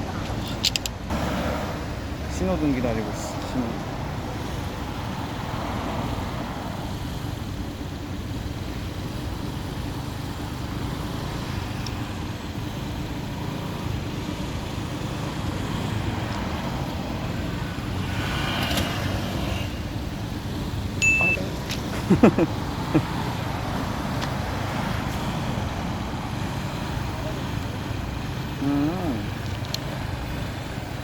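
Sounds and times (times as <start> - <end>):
rumble of passing cars: 0.0 - 31.0.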